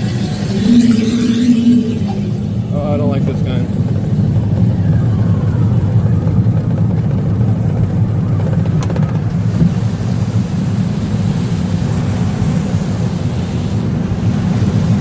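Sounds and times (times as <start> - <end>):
roller coaster wheels rumbling: 0.0 - 15.0.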